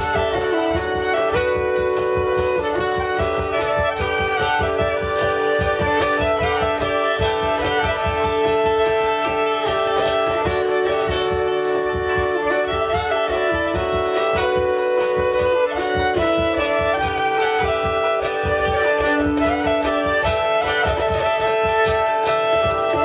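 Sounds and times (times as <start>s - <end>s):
cajon beat: 0.0s - 23.0s
fiddle melody: 0.0s - 23.0s
hurdy-gurdy drone: 0.0s - 23.0s.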